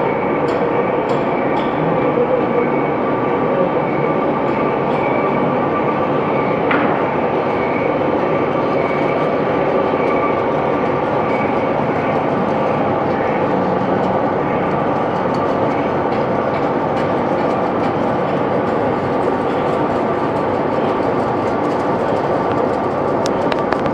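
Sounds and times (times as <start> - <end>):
boring mill whining: 0.0 - 23.9.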